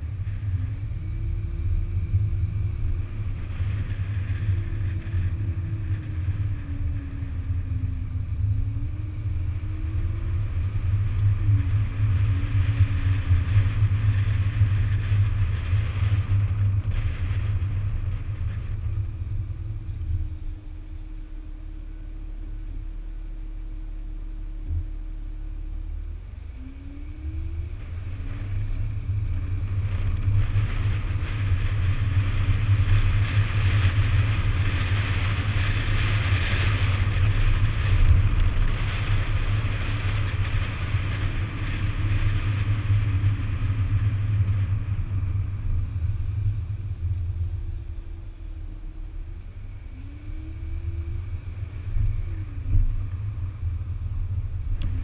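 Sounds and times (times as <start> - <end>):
tyre and wind noise: 0.0 - 22.6, 24.6 - 55.0
car engine idling and accelerating: 0.0 - 55.0.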